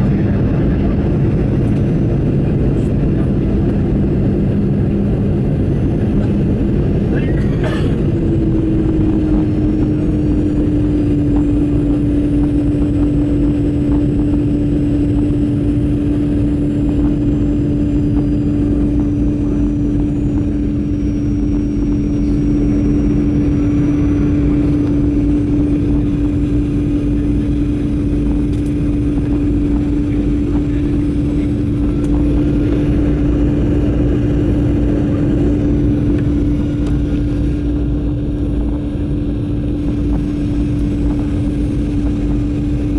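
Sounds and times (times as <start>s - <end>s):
airflow rumble: 0.0s - 42.9s
jet engine hum: 0.0s - 42.9s.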